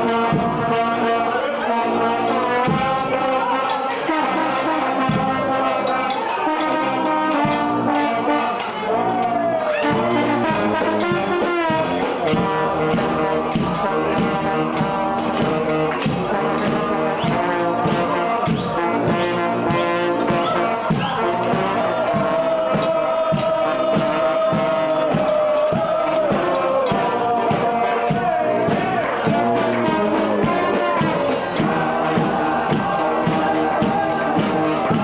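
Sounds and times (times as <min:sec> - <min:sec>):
brass band playing lively tune: 0:00.0 - 0:35.0
saxophone melody: 0:00.0 - 0:35.0
steady drum beat: 0:00.0 - 0:35.0.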